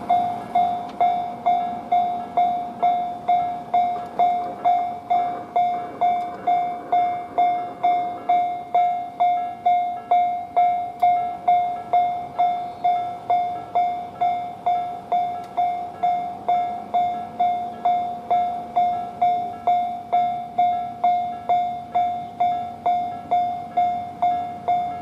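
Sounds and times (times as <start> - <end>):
level-crossing warning bell ringing: 0.0 - 25.0.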